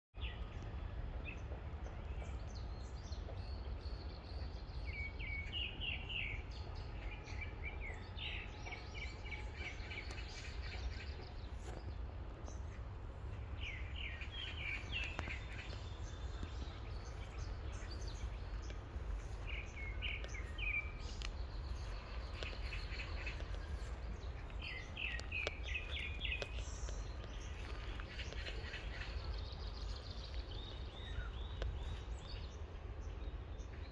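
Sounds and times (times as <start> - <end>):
low rumble: 0.2 - 33.9
bird chirping: 1.2 - 33.9.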